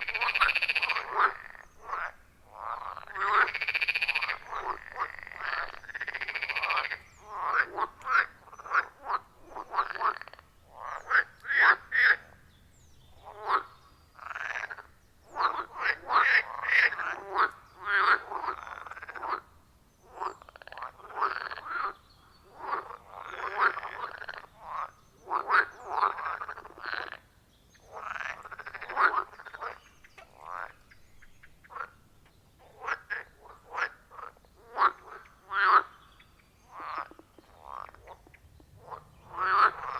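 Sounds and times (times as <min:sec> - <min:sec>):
frogs croaking: 0:00.0 - 0:12.4, 0:13.1 - 0:39.9.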